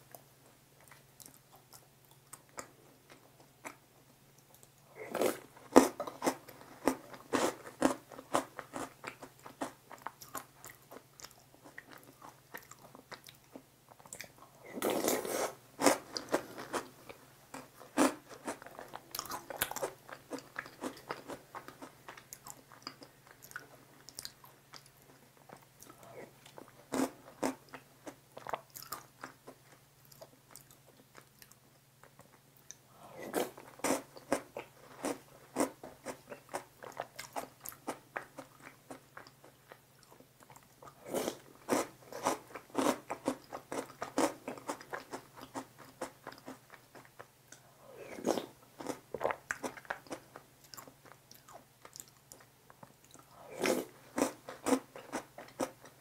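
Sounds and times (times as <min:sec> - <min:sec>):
chewing and crunching: 0:04.4 - 0:56.0.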